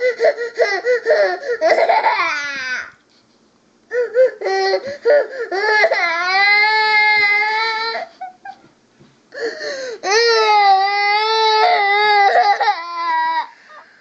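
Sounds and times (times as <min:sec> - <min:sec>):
girl crying and wailing: 0:00.0 - 0:03.0, 0:03.9 - 0:08.6, 0:09.4 - 0:13.5.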